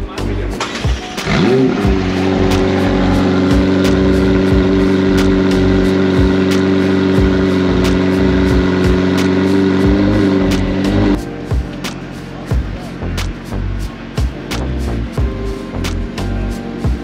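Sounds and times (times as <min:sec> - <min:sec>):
background music with beat: 0:00.0 - 0:17.0
car engine idling: 0:00.0 - 0:17.0.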